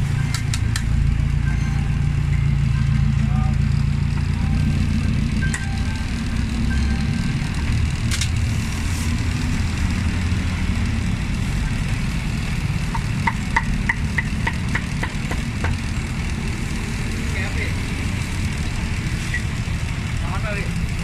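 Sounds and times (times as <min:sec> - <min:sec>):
street traffic rumble: 0:00.0 - 0:21.0
vehicle engine running: 0:00.0 - 0:21.0.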